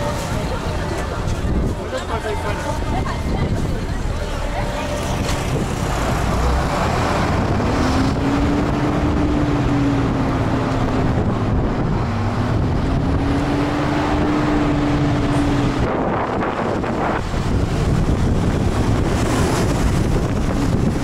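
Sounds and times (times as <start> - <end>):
bus road and engine noise: 0.0 - 21.0
wind rushing past microphone: 2.6 - 21.0.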